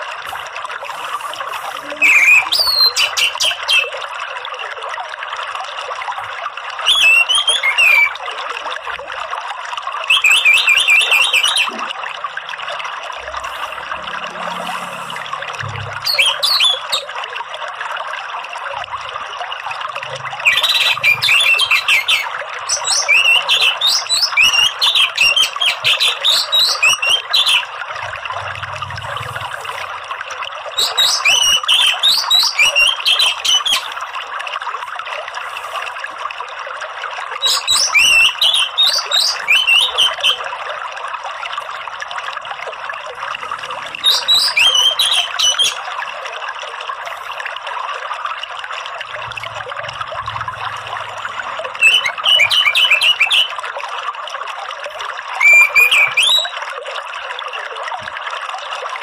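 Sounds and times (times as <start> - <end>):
trickle of running water: 0.0 - 59.0.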